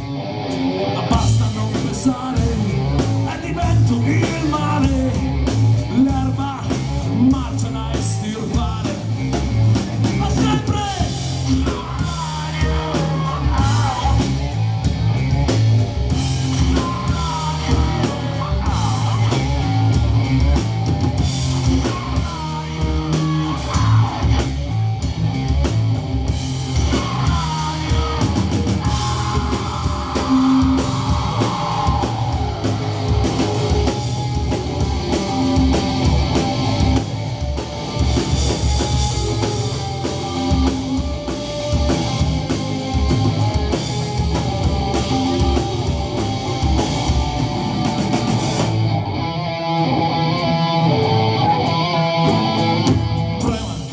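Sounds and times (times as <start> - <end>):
rock band playing: 0.0 - 53.9
wavering lead guitar line: 0.0 - 53.9.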